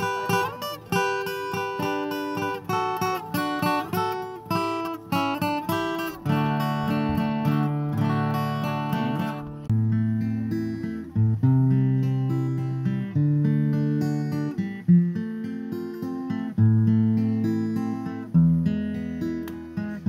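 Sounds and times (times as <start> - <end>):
strummed guitar chords: 0.0 - 20.0.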